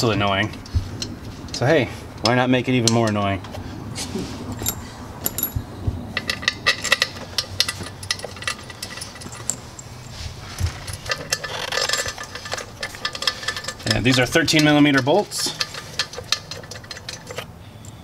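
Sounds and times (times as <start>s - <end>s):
metal bolts clinking: 0.0s - 3.5s, 4.5s - 17.5s.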